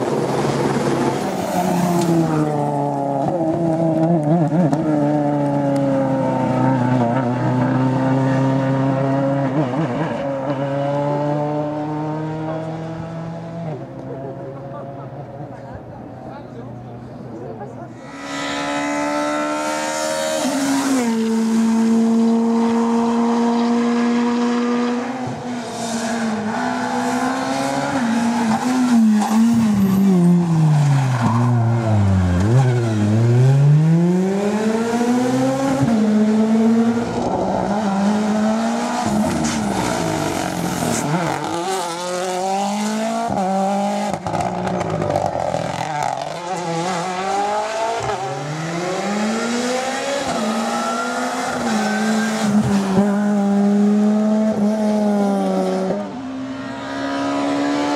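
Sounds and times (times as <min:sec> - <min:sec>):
rally car engine revving: 0:00.0 - 0:15.4, 0:17.9 - 0:57.9.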